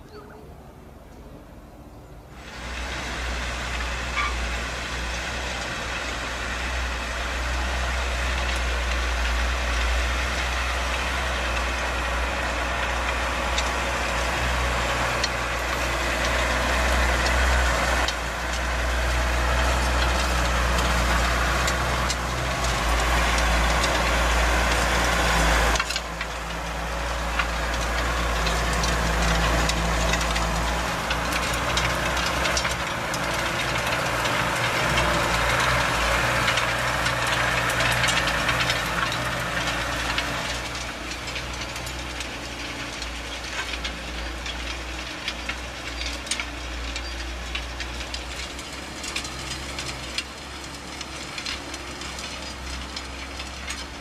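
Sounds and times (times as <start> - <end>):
tractor diesel engine running: 0.0 - 54.0
harrow rattling and scraping soil: 2.3 - 54.0.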